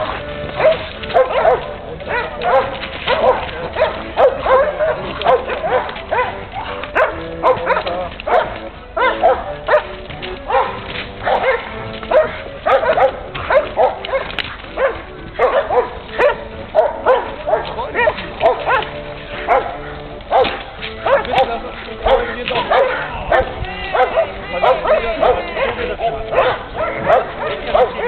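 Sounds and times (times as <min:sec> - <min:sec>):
dog barking aggressively: 0:00.0 - 0:28.0.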